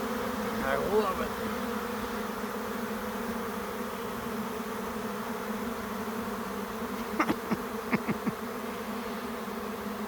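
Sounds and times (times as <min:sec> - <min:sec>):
bee swarm buzzing: 0:00.0 - 0:10.0
single bees buzzing past: 0:00.0 - 0:10.0.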